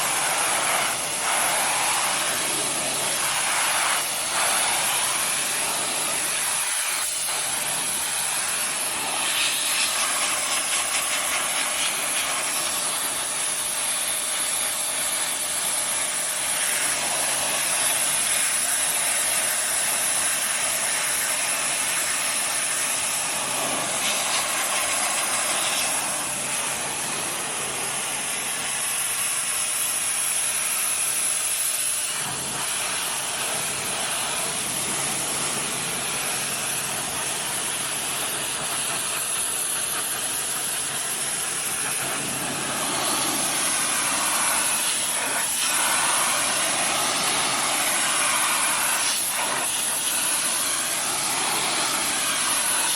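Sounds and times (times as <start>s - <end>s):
pressure washer spraying water: 0.0s - 52.9s.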